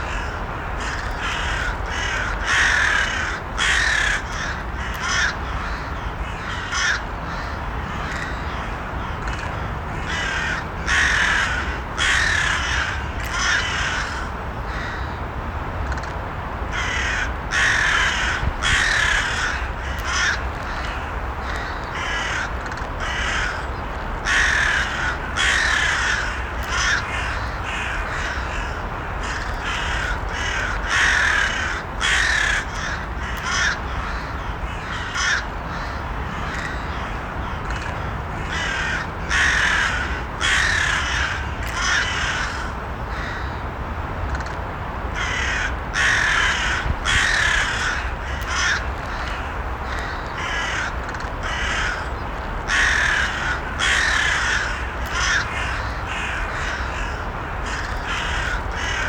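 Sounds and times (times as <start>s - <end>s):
crows cawing: 0.0s - 15.2s, 16.7s - 43.6s, 45.1s - 59.0s.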